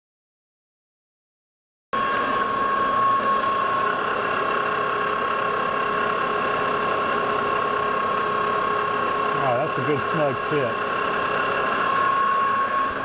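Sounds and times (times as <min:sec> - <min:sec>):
lathe gear whine: 0:02.0 - 0:13.0.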